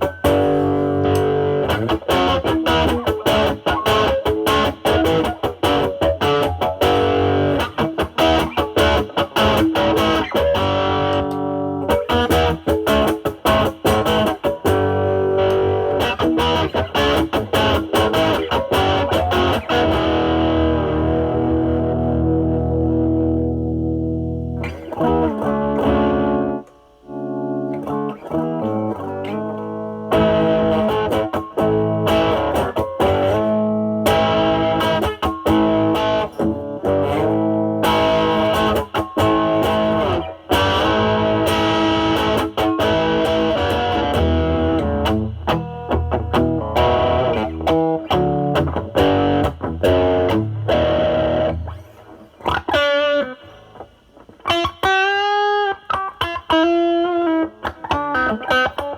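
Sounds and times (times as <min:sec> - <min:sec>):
distorted electric guitar: 0:00.0 - 0:58.9.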